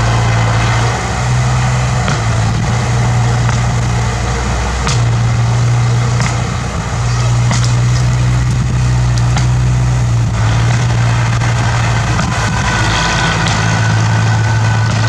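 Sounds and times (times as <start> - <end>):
sharp knocks: 0.0 - 4.2, 4.8 - 15.0
bulldozer diesel engine running: 0.0 - 15.0.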